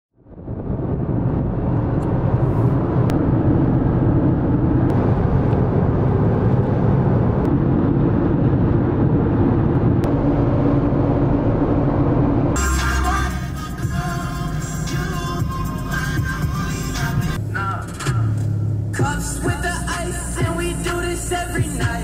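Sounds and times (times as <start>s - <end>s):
car cabin road and engine rumble: 0.2s - 22.0s.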